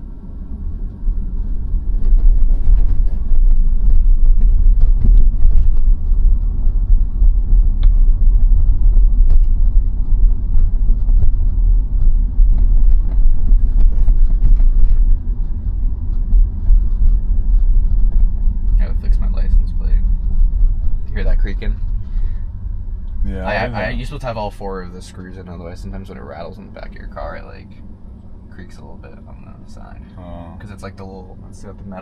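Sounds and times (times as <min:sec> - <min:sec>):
road and tyre rumble: 0:00.0 - 0:32.0.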